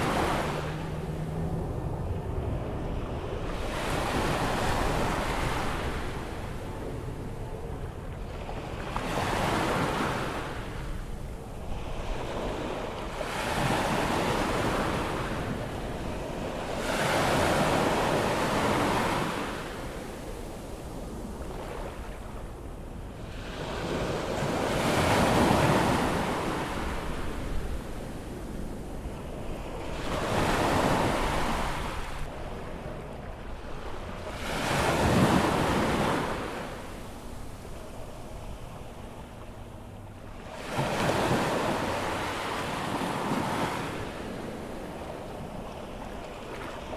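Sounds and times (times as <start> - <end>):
wind on microphone: 0.0 - 40.0
waves breaking on beach: 0.0 - 46.9.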